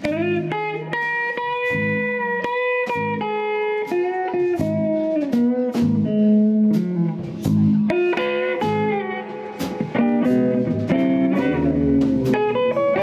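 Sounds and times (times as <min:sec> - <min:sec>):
bass guitar: 0:00.0 - 0:13.0
drums and cymbal hits: 0:00.0 - 0:13.0
lead guitar melody: 0:00.0 - 0:13.0.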